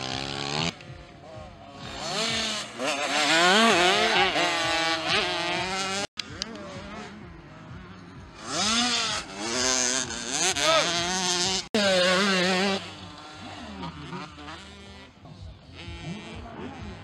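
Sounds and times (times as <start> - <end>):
motocross bike engine revving: 0.0 - 17.0.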